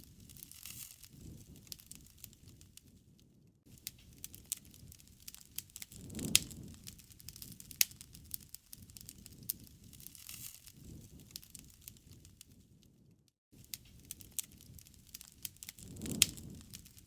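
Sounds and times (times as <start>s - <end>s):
low rush of flame: 0.0s - 17.0s
wood fire crackling: 0.0s - 17.0s.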